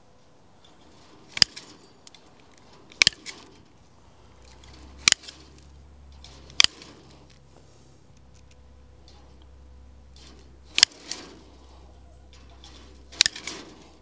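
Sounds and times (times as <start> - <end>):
bolt cutters snapping wire: 0.6 - 14.0.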